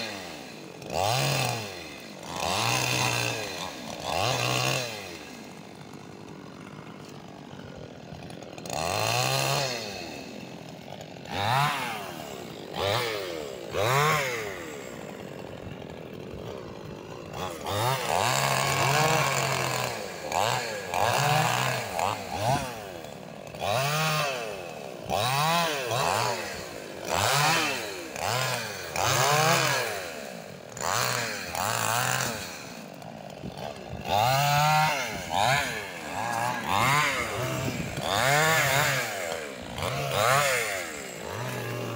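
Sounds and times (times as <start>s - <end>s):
chainsaw revving and idling: 0.0s - 41.9s.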